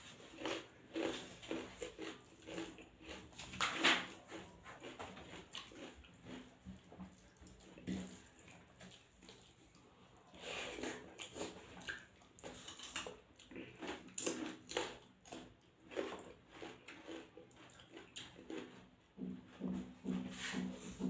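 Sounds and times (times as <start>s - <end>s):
chewing and wet mouth smacking: 0.2s - 19.0s.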